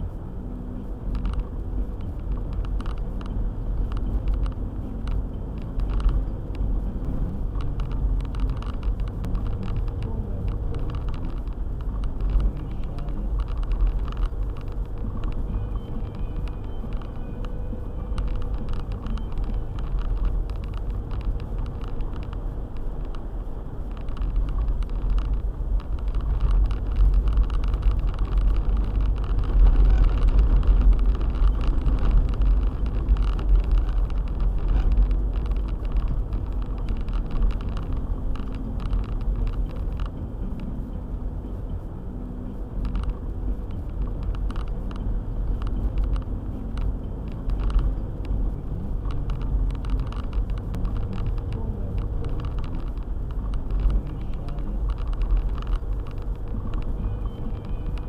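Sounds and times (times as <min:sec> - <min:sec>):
car engine and tyres rumbling: 0:00.0 - 0:58.0
small knocks and ticks: 0:01.1 - 0:41.9, 0:42.5 - 0:58.0.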